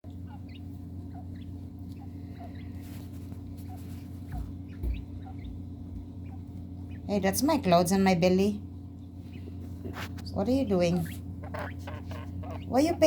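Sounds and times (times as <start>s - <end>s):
low hum: 0.0s - 13.0s
quail peeping: 0.1s - 8.2s, 8.9s - 13.0s.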